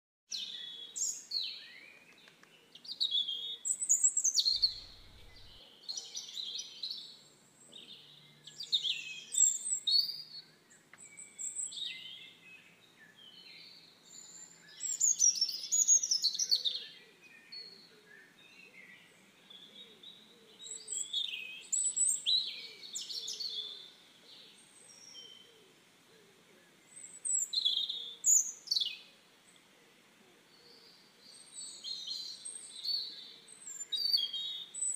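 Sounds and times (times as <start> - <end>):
birds chirping and singing: 0.3 - 25.6, 26.8 - 29.1, 30.5 - 34.9.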